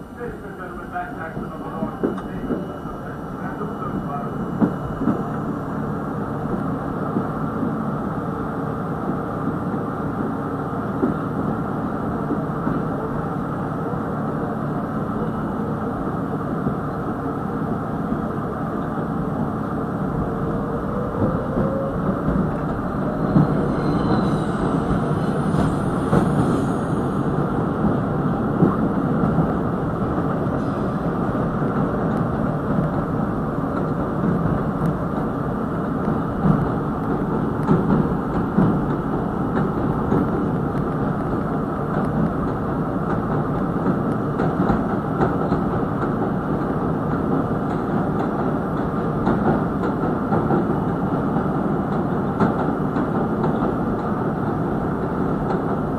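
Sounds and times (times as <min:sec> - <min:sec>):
subway wheels rumbling on rail: 0:00.0 - 0:55.9.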